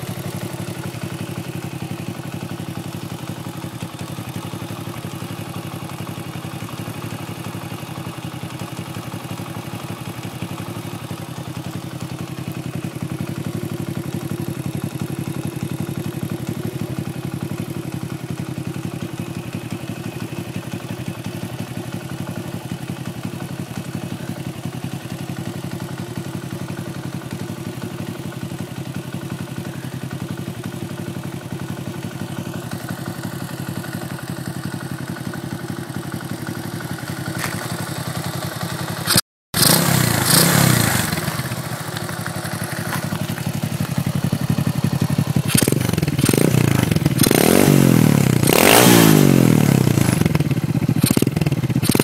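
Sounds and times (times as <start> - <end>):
motorbike engine idling: 0.0 - 52.0.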